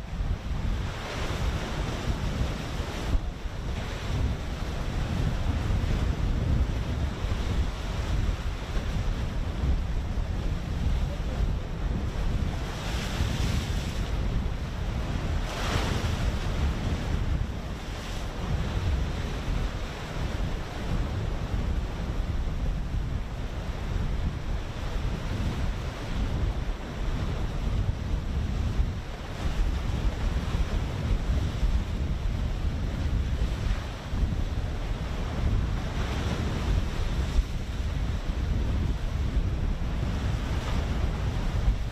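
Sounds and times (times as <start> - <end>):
choppy sea waves: 0.0 - 41.9
wind buffeting microphone: 0.0 - 41.9.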